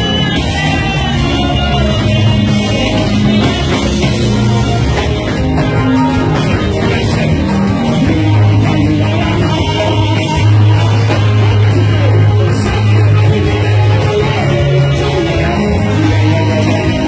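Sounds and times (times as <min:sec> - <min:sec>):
amplified church praise music: 0:00.0 - 0:17.0.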